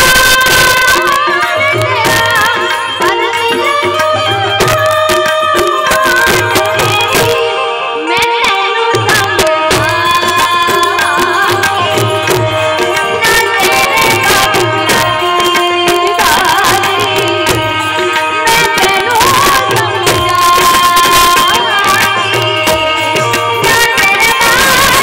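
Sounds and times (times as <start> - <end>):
harmonium held notes: 0.0 - 25.0
tabla strokes: 0.0 - 25.0
woman singing: 0.0 - 25.0.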